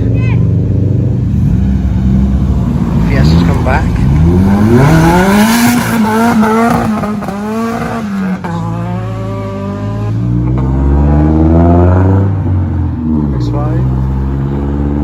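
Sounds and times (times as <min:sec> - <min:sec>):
car engine accelerating hard: 0:00.9 - 0:15.0.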